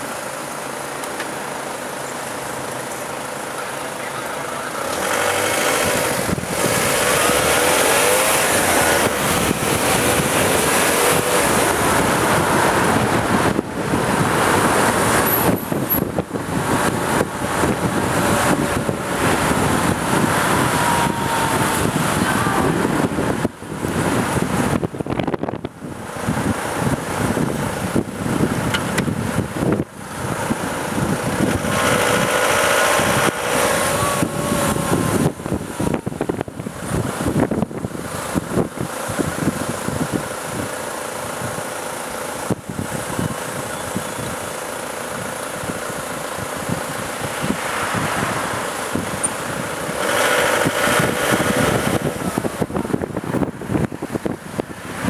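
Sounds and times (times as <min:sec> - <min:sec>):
road traffic noise: 0:00.0 - 0:55.0.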